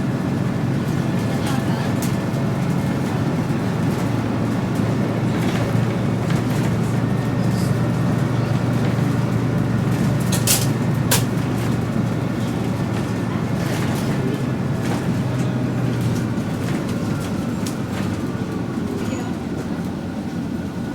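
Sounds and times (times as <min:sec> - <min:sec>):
bus engine drone: 0:00.0 - 0:20.9.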